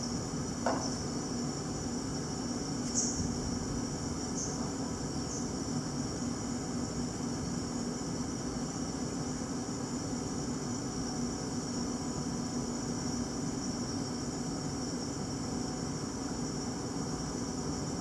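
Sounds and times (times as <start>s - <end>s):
constant low hum: 0.0s - 18.0s.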